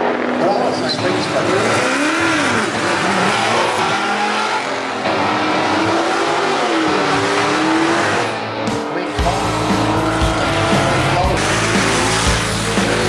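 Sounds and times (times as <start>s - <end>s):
race car engine revving hard: 0.0s - 13.0s.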